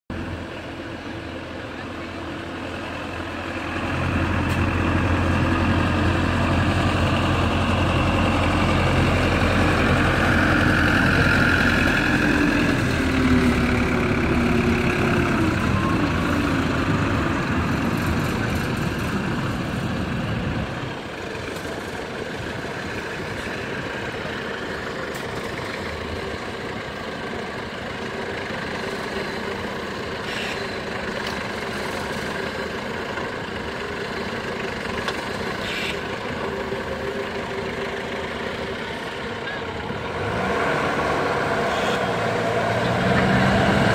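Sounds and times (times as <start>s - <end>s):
engine idling: 0.1s - 40.4s
tractor diesel engine under load: 0.1s - 43.9s.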